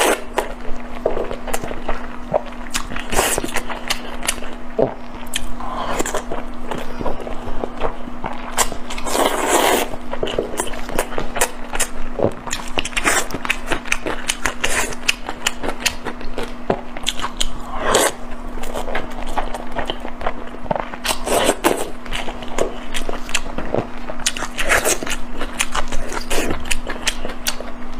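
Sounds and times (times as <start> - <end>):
person chewing with wet smacks: 0.0 - 27.8.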